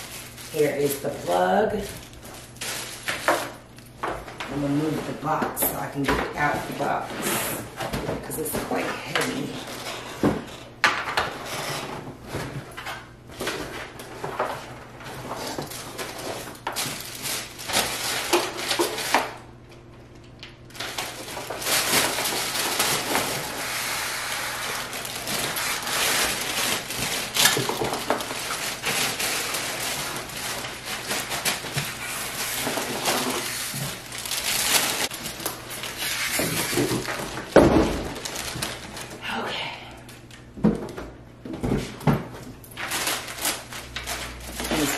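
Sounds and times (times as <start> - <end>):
plastic bag crinkling: 0.0 - 7.7, 12.7 - 19.5, 20.1 - 39.5, 42.6 - 44.9.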